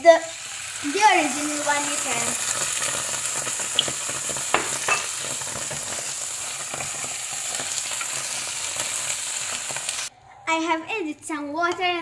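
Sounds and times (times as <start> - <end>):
food sizzling in a frying pan: 0.0 - 10.1.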